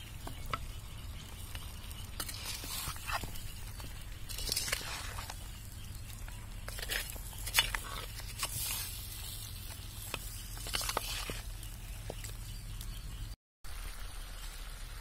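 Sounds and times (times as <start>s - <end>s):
spoon stirring wet meat: 0.2s - 12.3s.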